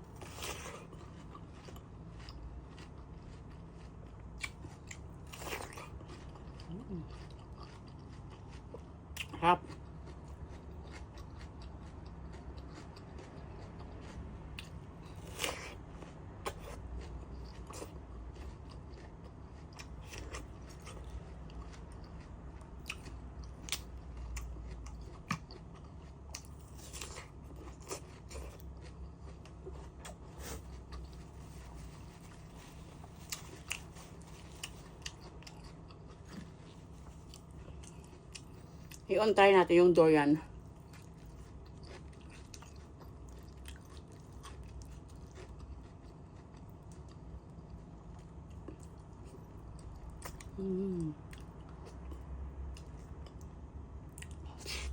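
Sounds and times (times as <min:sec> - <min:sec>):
person chewing and biting food: 0:00.0 - 0:39.0, 0:40.6 - 0:53.5
food crunching: 0:00.1 - 0:39.1, 0:40.6 - 0:53.5.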